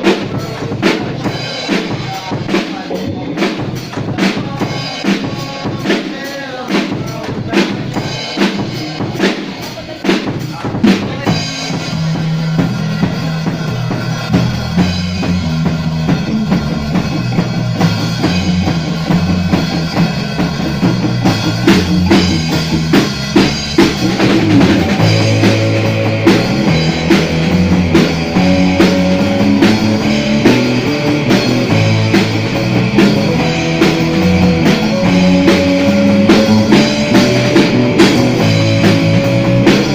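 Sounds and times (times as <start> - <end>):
bass guitar: 0.0 - 39.9
drum kit: 0.0 - 39.9.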